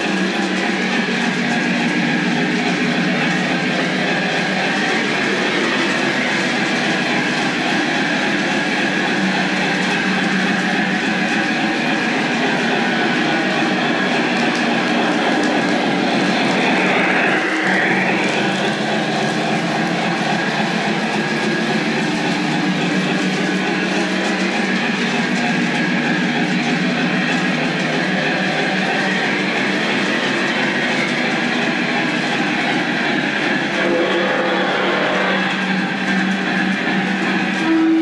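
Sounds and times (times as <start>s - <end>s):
constant hum: 0.0s - 38.0s
model train wheels rumbling: 0.0s - 38.0s.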